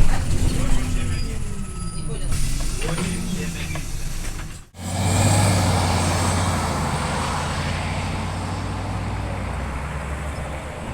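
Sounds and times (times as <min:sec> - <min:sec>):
bus diesel engine drone: 0:00.0 - 0:10.9
road and cabin noise: 0:00.0 - 0:10.9.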